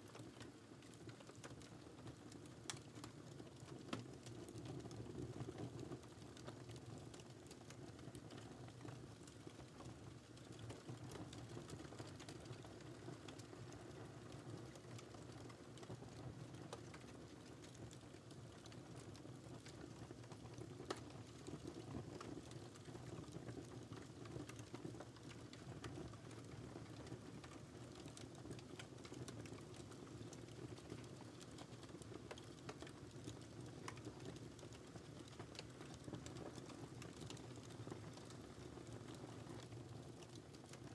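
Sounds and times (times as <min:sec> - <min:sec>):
faint fire popping and snapping: 0:00.0 - 0:40.9
wood fire rumbling: 0:00.8 - 0:40.9.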